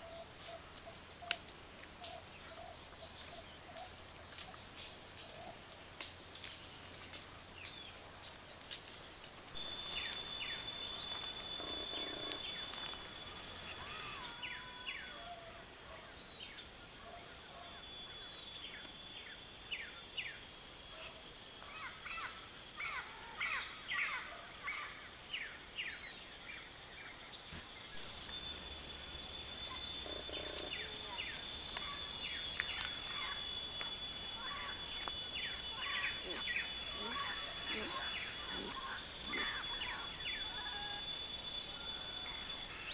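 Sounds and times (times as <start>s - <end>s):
high-pitched insect trill: 0.0s - 42.9s
songbirds chirping: 0.0s - 42.9s.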